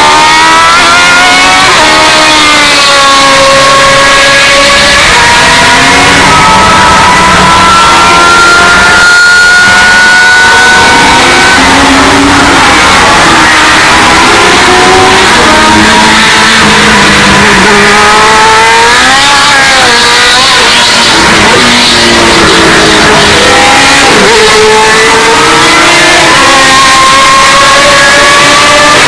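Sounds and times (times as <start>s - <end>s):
race car engines at high revs: 0.0s - 29.0s.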